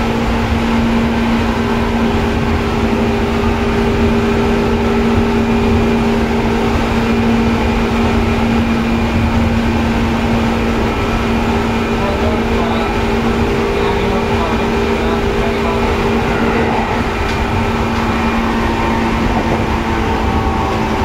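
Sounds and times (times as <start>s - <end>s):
train equipment hum: 0.0s - 21.0s
train wheels rumbling on rails: 0.0s - 21.0s.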